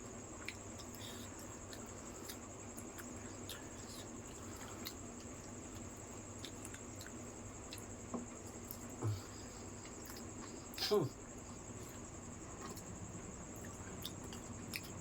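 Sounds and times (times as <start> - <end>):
wet chewing: 0.4 - 10.7, 11.8 - 12.9, 13.5 - 15.0.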